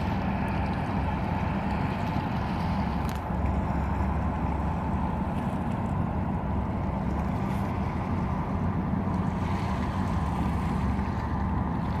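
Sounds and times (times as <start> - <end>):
boat engines droning: 0.0 - 12.0
boat wake washing: 0.0 - 12.0.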